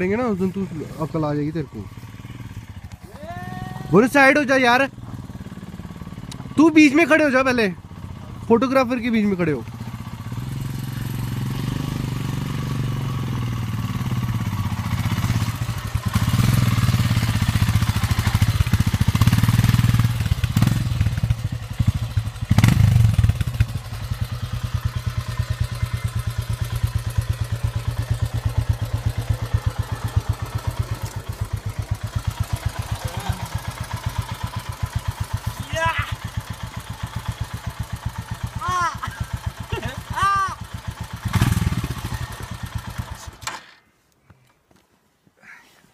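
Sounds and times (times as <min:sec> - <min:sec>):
motorcycle engine running: 0:00.0 - 0:43.4.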